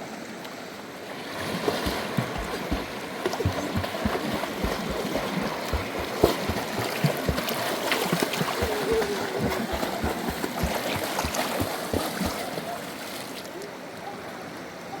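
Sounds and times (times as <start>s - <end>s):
river water rushing: 0.2s - 15.0s
small splashes and knocks: 1.4s - 13.6s.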